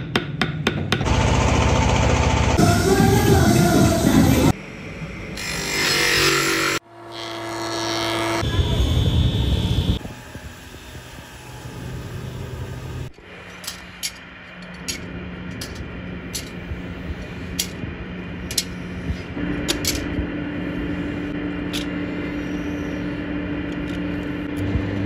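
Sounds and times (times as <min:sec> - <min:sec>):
steady machine hum: 0:01.0 - 0:05.5, 0:08.4 - 0:25.0
higher-pitched hum: 0:01.1 - 0:25.0.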